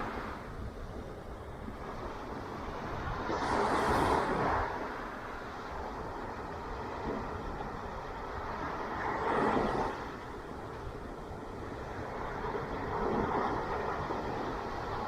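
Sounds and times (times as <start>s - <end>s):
ocean surf rumbling: 0.0s - 15.0s.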